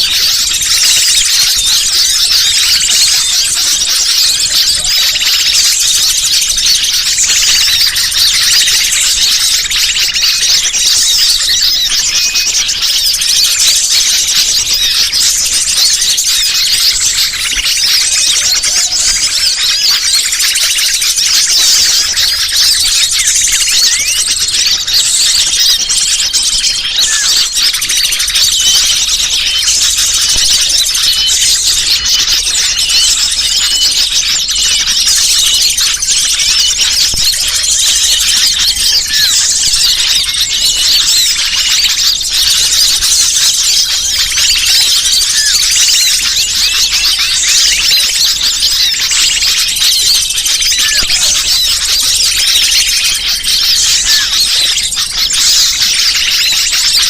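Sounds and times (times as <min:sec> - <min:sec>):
small birds chirping and squeaking: 0:00.0 - 0:57.0.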